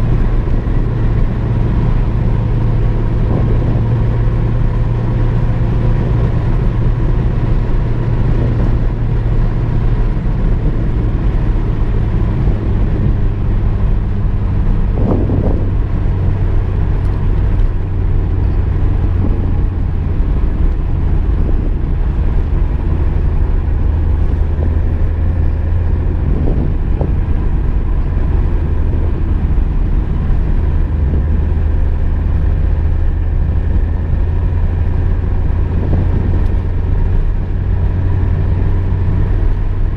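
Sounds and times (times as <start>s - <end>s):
car engine drone: 0.0s - 39.9s
road noise: 0.0s - 39.9s.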